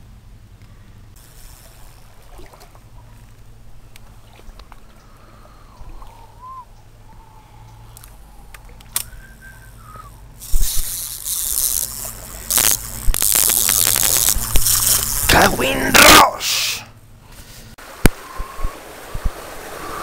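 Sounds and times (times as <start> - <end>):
stream trickling: 1.2 - 15.6, 17.8 - 20.0.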